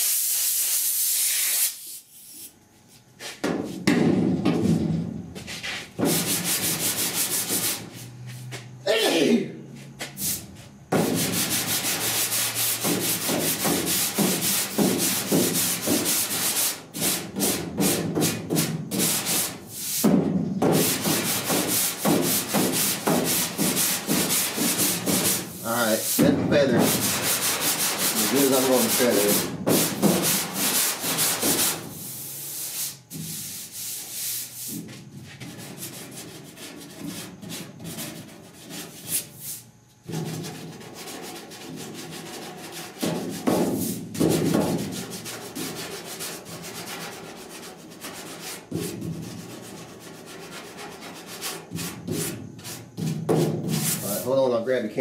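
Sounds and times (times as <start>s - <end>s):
sandpaper rasping on metal: 0.0s - 2.5s, 5.4s - 8.5s, 10.1s - 54.3s.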